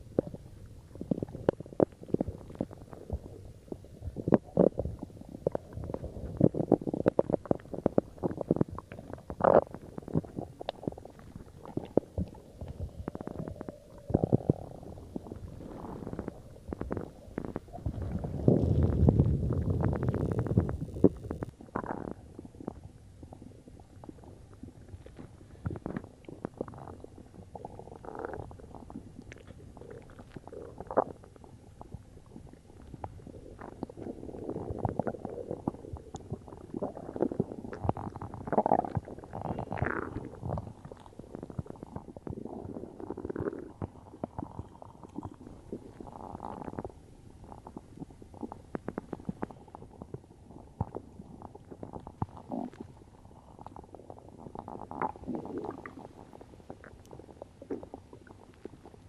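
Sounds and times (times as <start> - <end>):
stomach gurgling and rumbling: 0.0 - 59.0.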